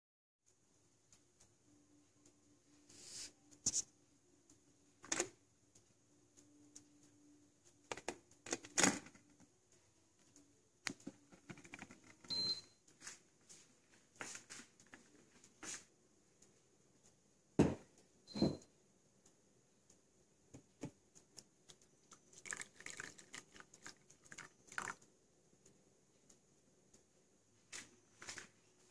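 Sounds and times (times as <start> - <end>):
faint steady hum: 0.5 - 28.9.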